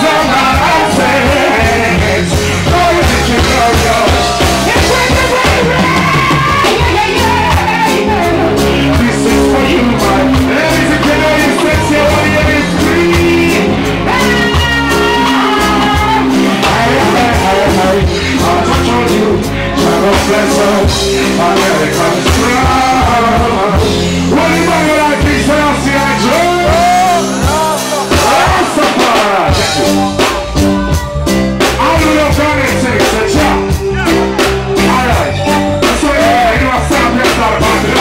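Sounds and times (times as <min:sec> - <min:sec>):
man singing into microphone: 0:00.0 - 0:31.0, 0:31.6 - 0:38.0
live reggae band playing: 0:00.0 - 0:38.0.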